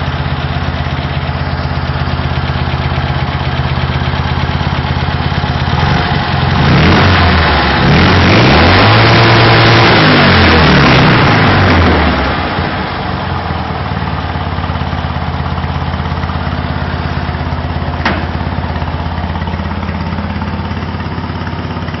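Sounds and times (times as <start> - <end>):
car engine idling: 0.0 - 8.2, 11.4 - 22.0.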